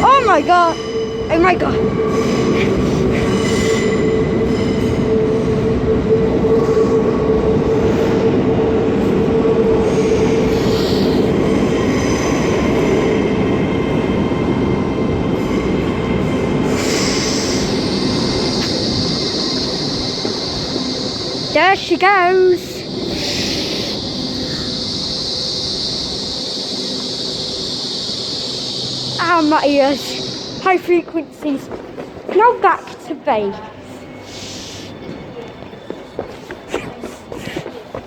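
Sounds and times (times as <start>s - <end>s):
train pulling out: 0.0s - 38.0s.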